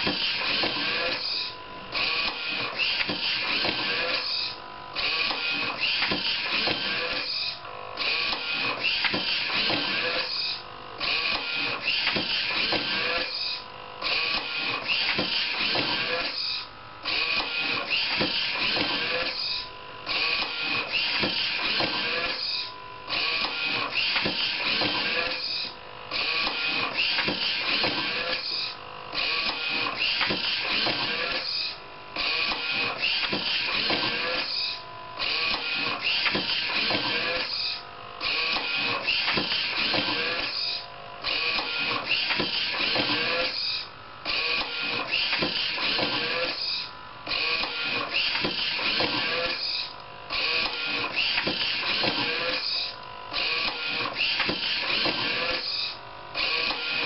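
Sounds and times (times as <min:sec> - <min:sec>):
book scanner mechanical whirring: 0:00.0 - 0:57.0.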